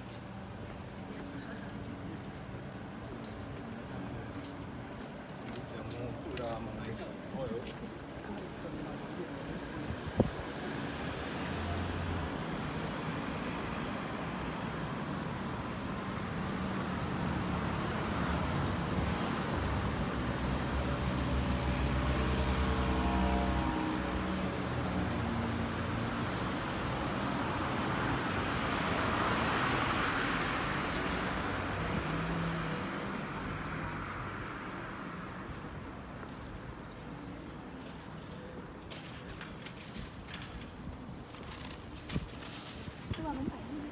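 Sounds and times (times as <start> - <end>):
vehicles passing: 0.0 - 43.9.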